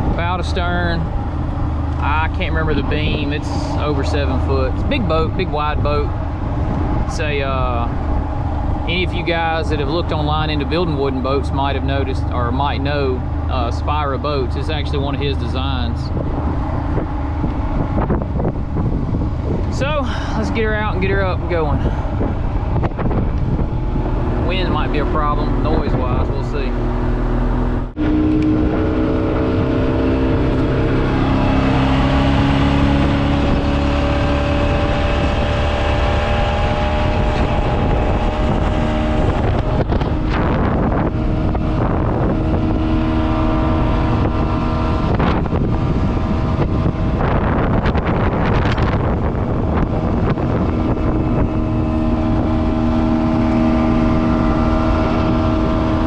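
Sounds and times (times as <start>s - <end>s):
outboard motor running: 0.0s - 56.0s
wind buffeting microphone: 0.0s - 56.0s.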